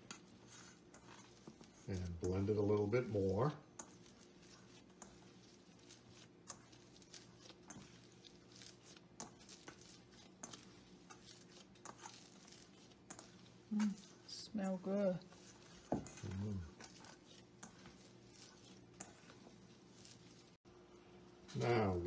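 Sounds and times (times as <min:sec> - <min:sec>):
hands kneading dough: 0:00.0 - 0:20.7, 0:21.3 - 0:22.0.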